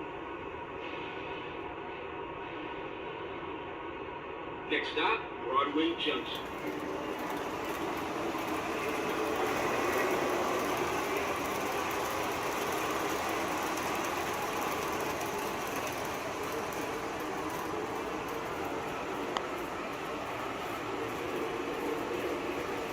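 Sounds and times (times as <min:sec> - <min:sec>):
model subway train running: 0:00.0 - 0:22.9
moving subway train sound effect: 0:00.0 - 0:22.9.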